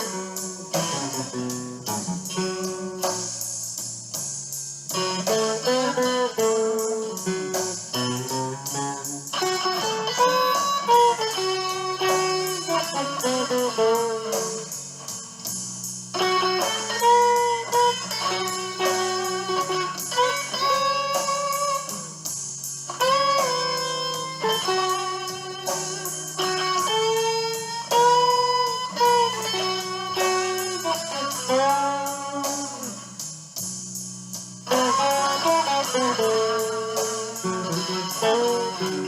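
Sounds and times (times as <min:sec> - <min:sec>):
electric guitar blues lead: 0:00.0 - 0:03.4, 0:04.9 - 0:15.5, 0:16.1 - 0:33.5, 0:34.4 - 0:39.0
bass and drums backing track: 0:00.0 - 0:39.0.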